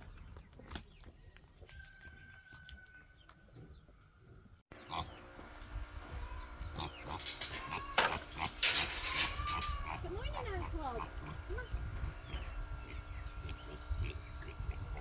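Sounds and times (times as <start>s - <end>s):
farm animals calling: 2.0s - 15.0s.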